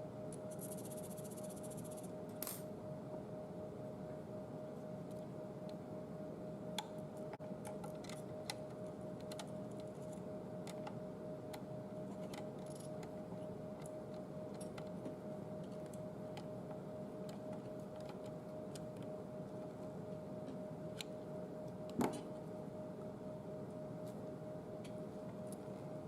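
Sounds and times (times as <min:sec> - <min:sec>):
faint hum with thin tone: 0:00.0 - 0:26.0.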